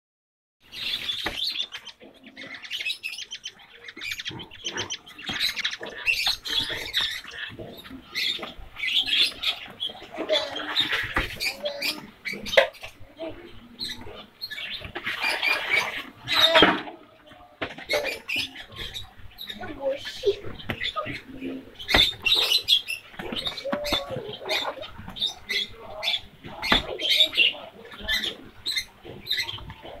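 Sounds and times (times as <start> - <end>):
finches chirping: 0.6 - 16.6, 17.2 - 30.0.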